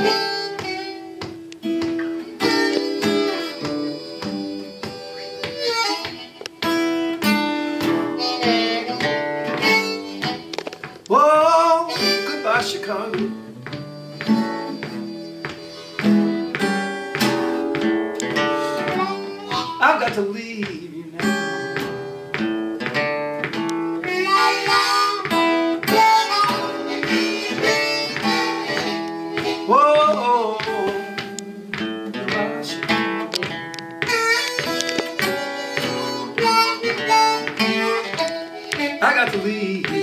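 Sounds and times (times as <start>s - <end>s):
acoustic guitar rhythm: 0.0s - 40.0s
harmonica playing: 0.0s - 40.0s.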